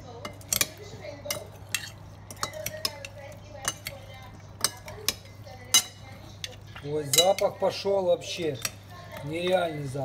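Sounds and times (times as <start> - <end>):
soft stirring of salad: 0.0 - 10.0
metal spoons clinking on glass bowl: 0.2 - 9.6.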